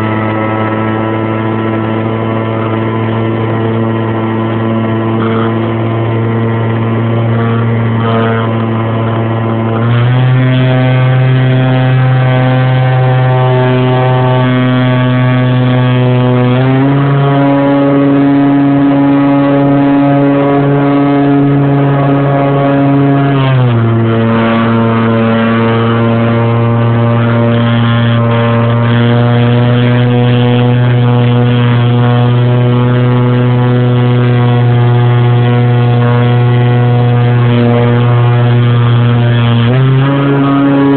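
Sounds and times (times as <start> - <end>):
model plane motor whine: 0.0 - 40.9.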